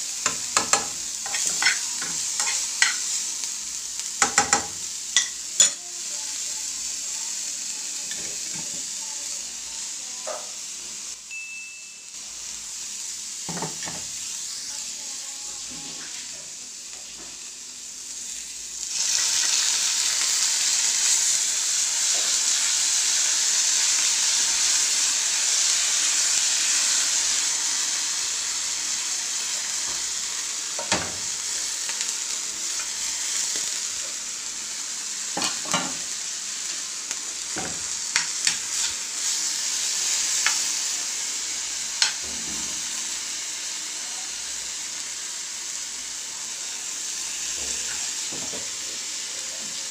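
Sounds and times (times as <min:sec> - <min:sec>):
oil sizzling in frying pan: 0:00.0 - 0:49.9.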